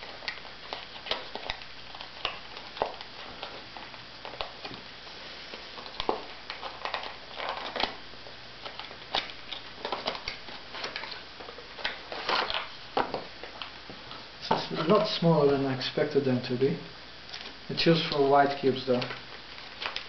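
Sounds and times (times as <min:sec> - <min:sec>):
packaging crinkling and rustling: 0:00.0 - 0:15.6, 0:17.3 - 0:20.0.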